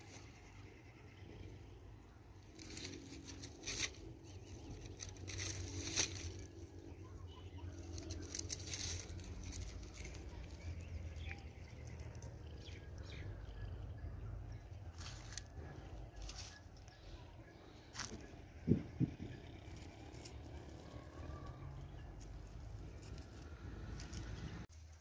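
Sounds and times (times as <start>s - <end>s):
steady low rumble: 0.2s - 24.7s.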